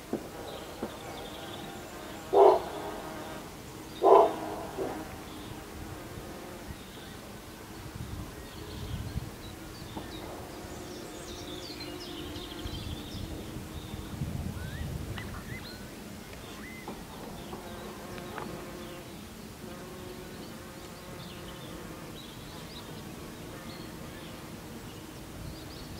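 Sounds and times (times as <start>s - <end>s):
small birds chirping: 0.4s - 25.9s.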